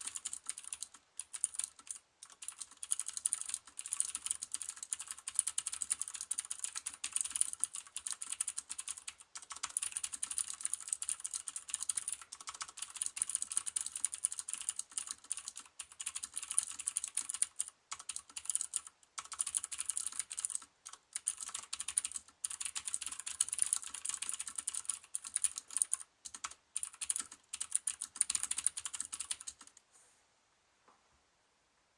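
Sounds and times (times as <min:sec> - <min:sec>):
mechanical keyboard typing: 0:00.0 - 0:29.8.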